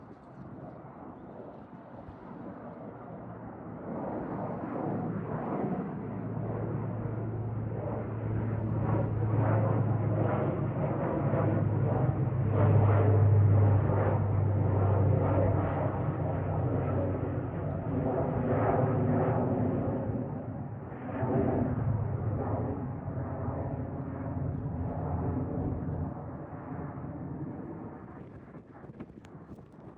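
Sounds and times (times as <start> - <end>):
turboprop engines roaring: 4.1 - 29.9.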